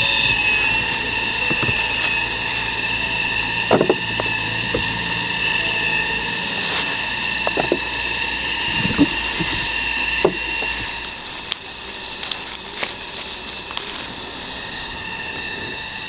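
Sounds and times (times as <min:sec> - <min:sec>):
branches and leaves rustling: 0:00.0 - 0:16.0
drone of high held tones: 0:00.0 - 0:16.0.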